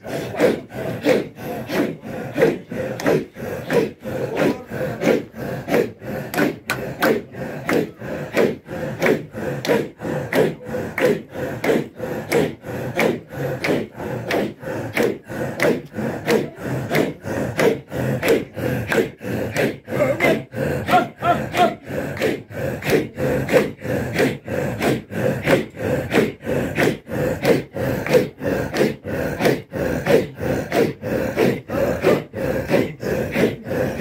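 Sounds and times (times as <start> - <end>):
men chanting breathily in unison: 0.0 - 34.0.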